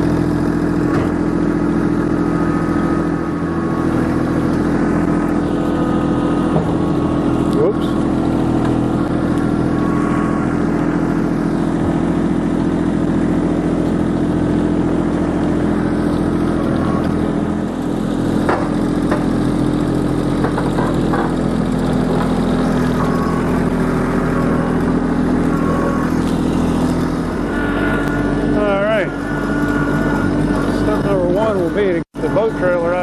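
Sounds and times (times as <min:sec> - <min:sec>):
diesel tractor engine idling: 0:00.0 - 0:33.0.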